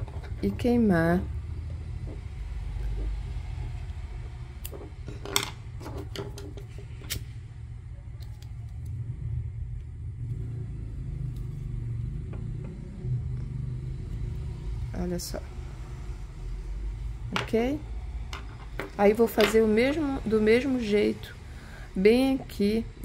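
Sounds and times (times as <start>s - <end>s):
steady low rumble: 0.0s - 5.7s, 7.1s - 23.0s.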